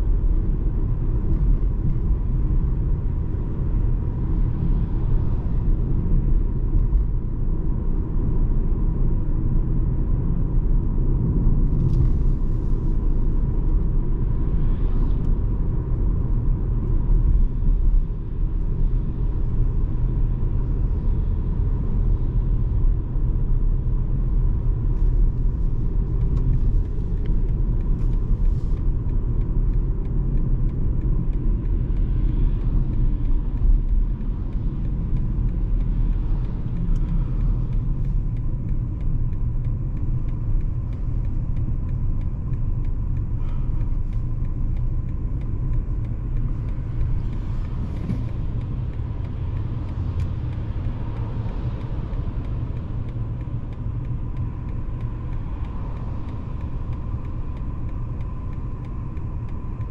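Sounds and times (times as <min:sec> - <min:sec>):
car road and tyre rumble: 0:00.0 - 0:59.9.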